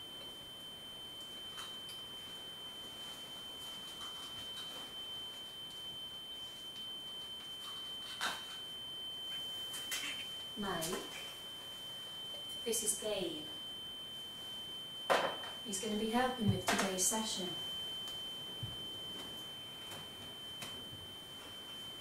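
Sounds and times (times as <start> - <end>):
high-pitched ringing tone: 0.0 - 22.0.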